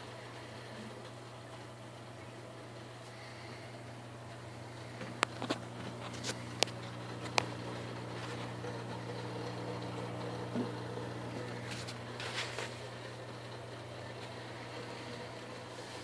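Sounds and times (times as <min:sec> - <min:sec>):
aquarium equipment humming: 0:00.0 - 0:16.0.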